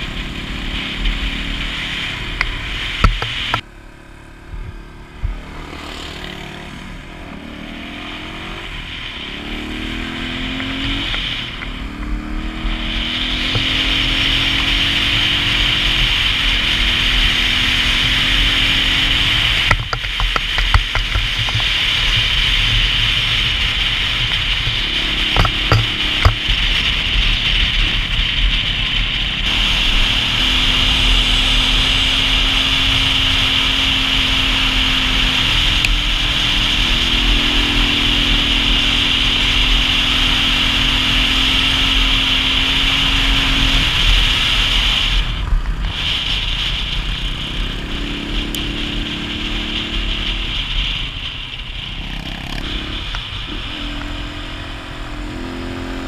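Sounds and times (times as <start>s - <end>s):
motorcycle engine running: 0.0s - 56.0s
rushing wind: 0.0s - 56.0s.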